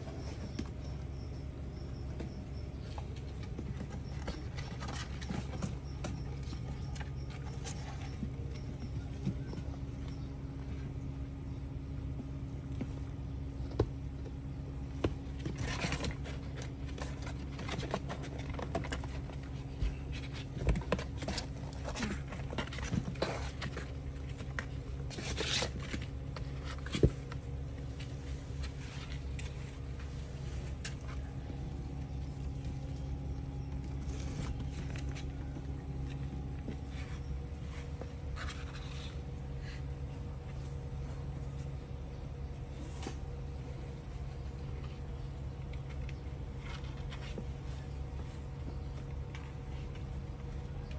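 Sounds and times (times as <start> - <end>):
kittens' paws scraping on cardboard: 0.0 - 10.2, 13.8 - 41.8, 42.6 - 50.9
steady low hum: 0.0 - 50.9.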